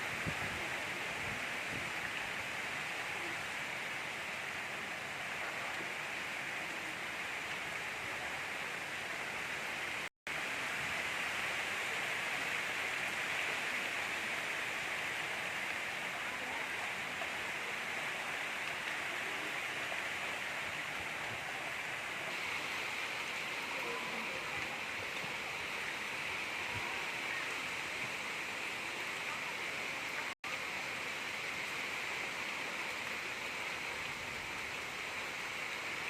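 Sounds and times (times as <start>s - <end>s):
gentle rain falling: 0.0s - 36.0s.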